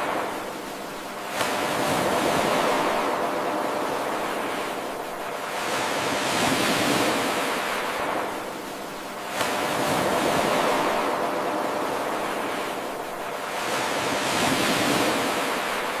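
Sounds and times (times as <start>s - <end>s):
ocean waves washing ashore: 0.0s - 16.0s.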